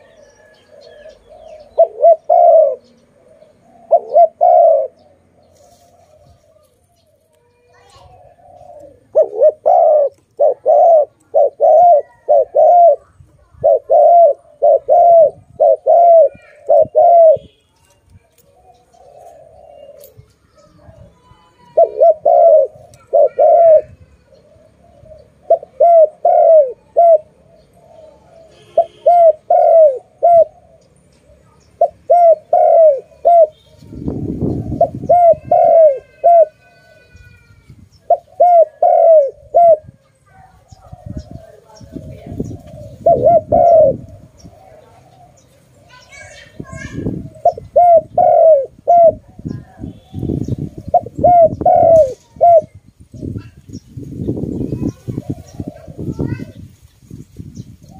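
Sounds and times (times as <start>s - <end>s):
dove cooing: 0.0s - 7.0s, 7.7s - 17.6s, 18.3s - 53.7s, 54.4s - 56.6s.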